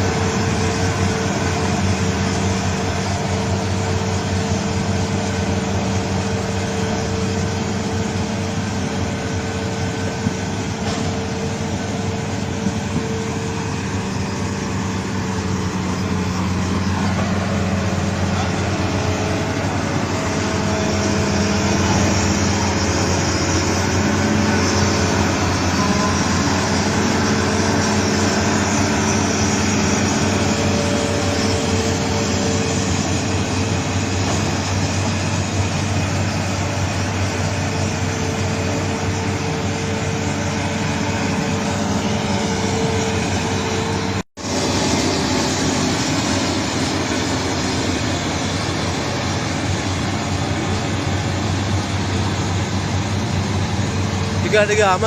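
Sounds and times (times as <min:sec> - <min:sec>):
heavy diesel machinery humming: 0:00.0 - 0:55.0.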